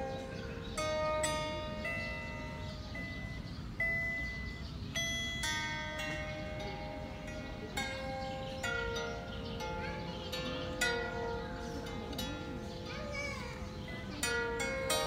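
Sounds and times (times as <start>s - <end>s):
lyre harp plucked notes: 0.0s - 15.0s.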